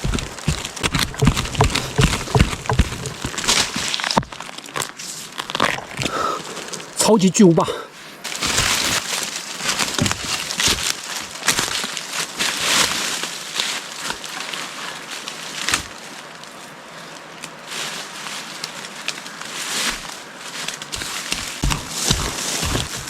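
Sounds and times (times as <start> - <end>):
dry leaves rustling and crackling: 0.0 - 6.9, 8.2 - 23.0.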